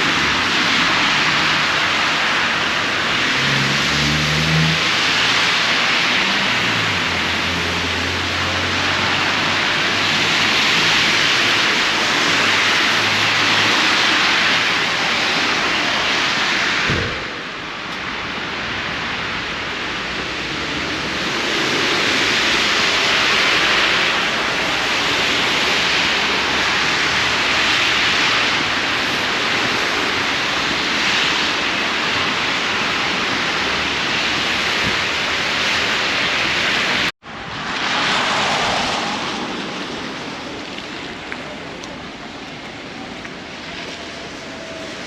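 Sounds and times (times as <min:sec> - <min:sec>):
blizzard wind rushing in gusts: 0:00.0 - 0:45.0.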